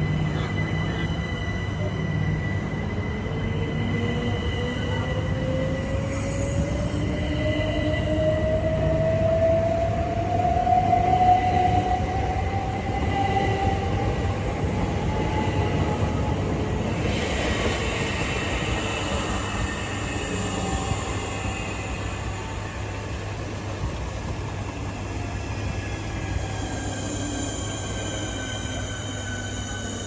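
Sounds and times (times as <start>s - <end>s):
rumble of wheels on rail: 0.0s - 30.0s.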